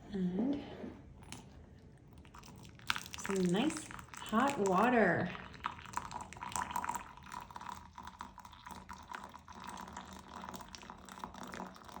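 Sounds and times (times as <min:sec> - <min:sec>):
faint water sounds: 0:02.1 - 0:12.0.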